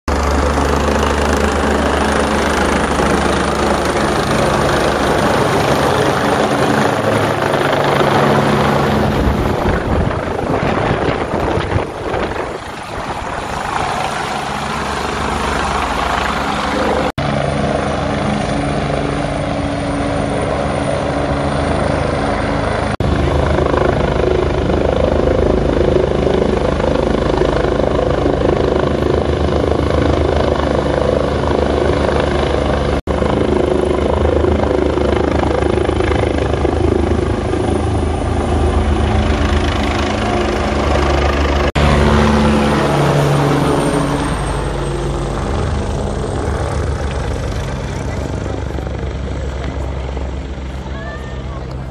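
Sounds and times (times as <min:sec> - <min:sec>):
helicopter rotor beating: 0:00.1 - 0:51.9.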